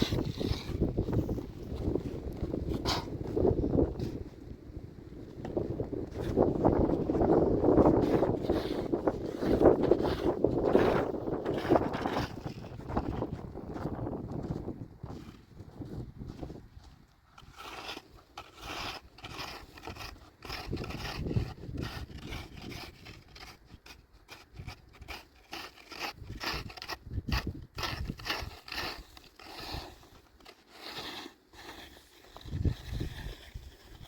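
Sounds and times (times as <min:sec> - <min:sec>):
scraping and rustling strokes: 0:00.0 - 0:04.5, 0:05.2 - 0:34.0.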